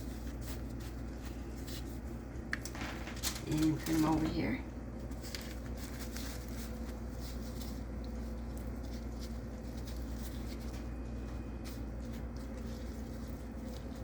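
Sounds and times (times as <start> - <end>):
hands patting and rustling food: 0.0 - 14.0.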